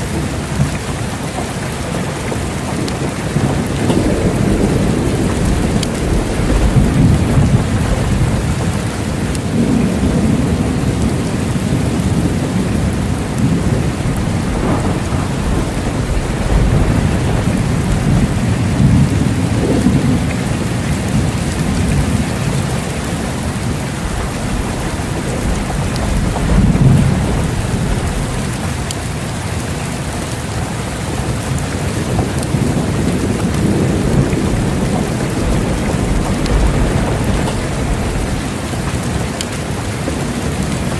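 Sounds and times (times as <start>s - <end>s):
heavy rain falling: 0.0s - 40.9s
rolling thunder: 0.0s - 40.9s.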